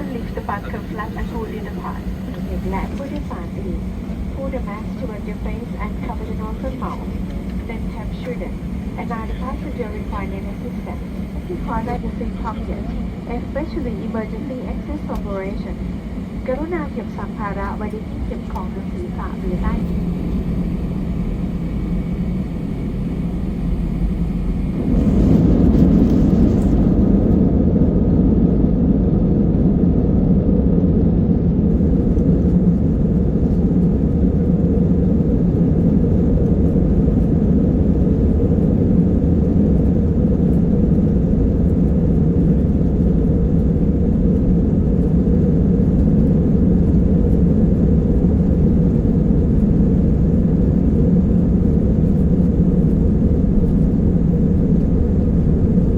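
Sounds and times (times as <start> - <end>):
jet engine rumble in cabin: 0.0 - 55.9.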